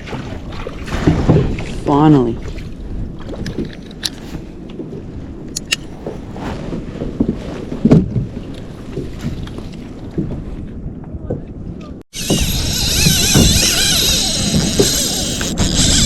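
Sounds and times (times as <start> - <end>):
knocks and clicks on hull: 0.0 - 1.8, 2.4 - 16.0
water sloshing against kayak: 0.0 - 16.0
wind on microphone: 0.0 - 16.0.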